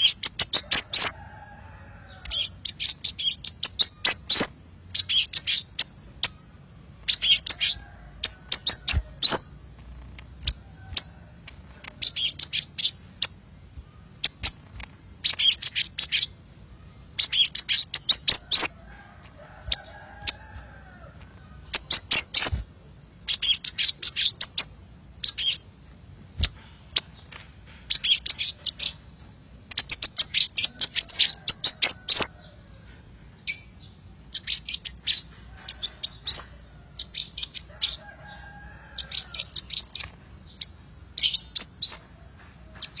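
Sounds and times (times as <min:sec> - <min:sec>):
sunbird twittering chirps: 0:00.0 - 0:11.2, 0:11.8 - 0:43.0.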